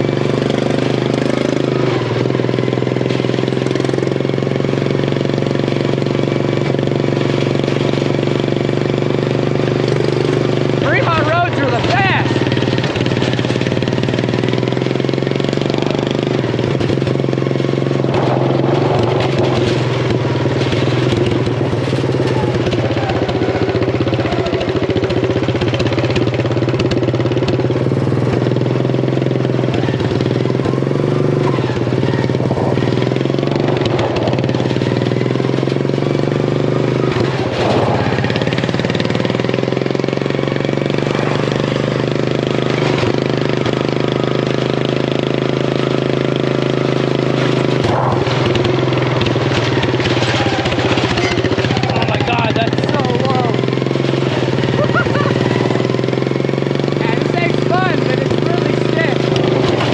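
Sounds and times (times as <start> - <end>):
riding mower engine running: 0.0 - 59.9.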